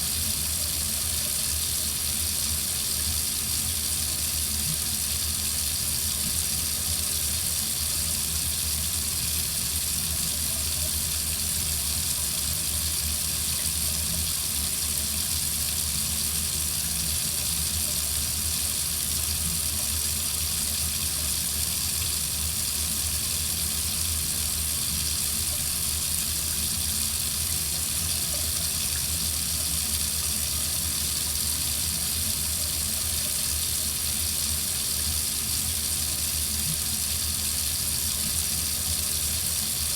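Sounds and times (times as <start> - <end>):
water running from sink faucet: 0.0 - 39.9.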